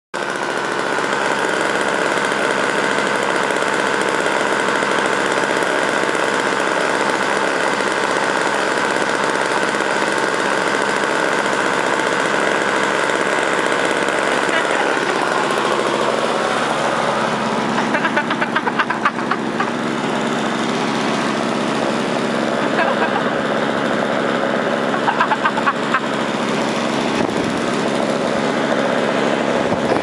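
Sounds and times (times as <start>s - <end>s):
small gasoline engine running: 0.2s - 30.0s.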